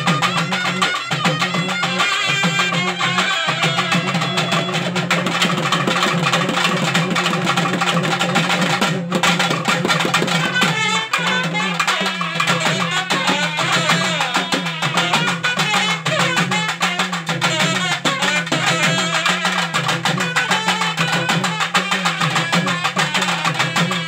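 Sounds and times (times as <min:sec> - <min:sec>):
reed pipes playing melody: 0:00.0 - 0:07.6, 0:09.8 - 0:24.0
fast drumming: 0:00.0 - 0:24.0.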